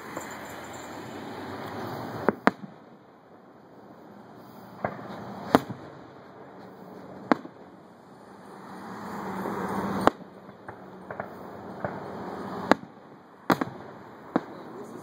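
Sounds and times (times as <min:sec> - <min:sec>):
firework bangs: 0:00.0 - 0:15.0
firework crackles: 0:00.0 - 0:15.0.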